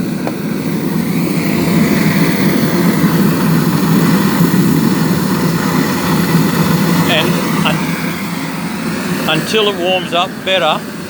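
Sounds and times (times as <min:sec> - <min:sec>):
furnace roaring with forced air: 0:00.0 - 0:11.0.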